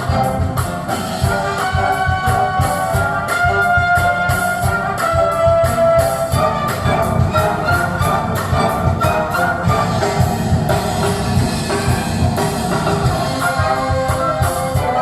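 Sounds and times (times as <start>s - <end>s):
jazzy brass music with bass beat: 0.0s - 15.0s.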